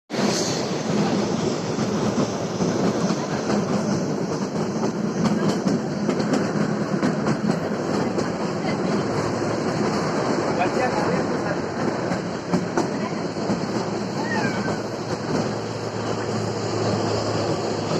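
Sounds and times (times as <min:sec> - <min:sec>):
train rumbling: 0:00.1 - 0:17.9.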